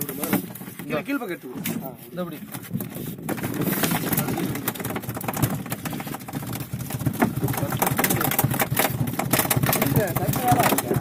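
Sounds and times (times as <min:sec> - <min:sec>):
fishing line crackling and scraping: 0:01.6 - 0:11.0.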